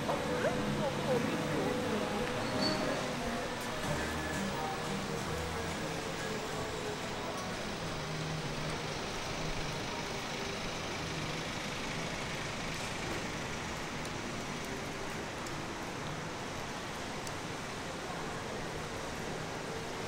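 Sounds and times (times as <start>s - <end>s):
low vehicle engine hum: 0.0s - 17.6s
traffic on wet road: 0.0s - 20.0s.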